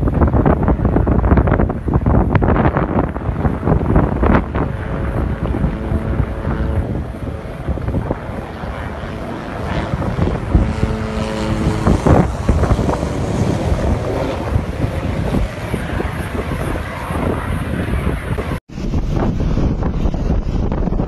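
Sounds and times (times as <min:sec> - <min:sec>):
helicopter rotor noise: 0:00.0 - 0:21.0
wind buffeting microphone: 0:00.0 - 0:21.0.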